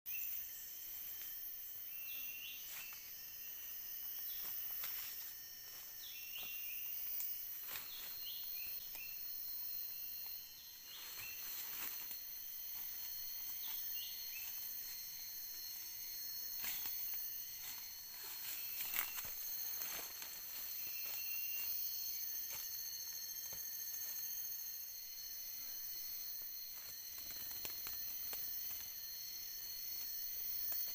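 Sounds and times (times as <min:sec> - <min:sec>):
insects droning: 0:00.1 - 0:30.9.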